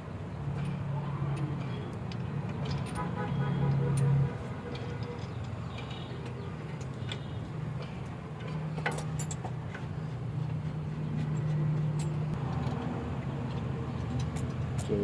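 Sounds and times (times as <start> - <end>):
light metal clicks and clinks: 0.5 - 10.1, 11.3 - 15.0.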